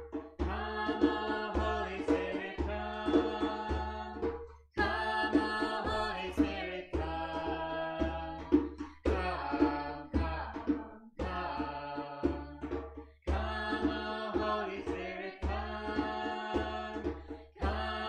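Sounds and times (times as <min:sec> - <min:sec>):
worship song singing: 0:00.4 - 0:12.5, 0:13.3 - 0:18.0.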